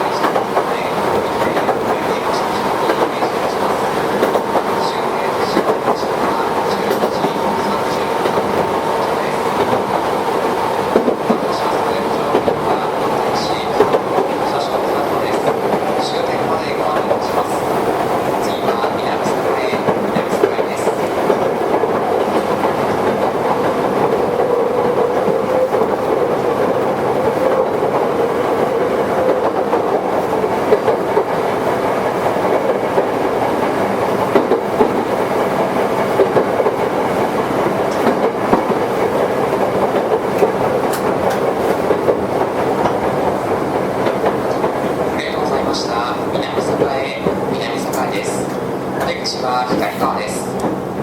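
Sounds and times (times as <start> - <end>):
wheels clicking over rail joints: 0.0 - 50.9
train running noise: 0.0 - 51.0.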